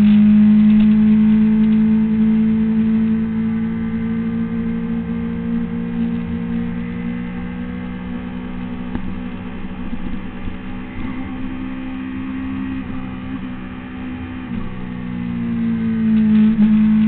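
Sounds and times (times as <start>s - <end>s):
motorcycle engine running at high speed: 0.0s - 17.0s.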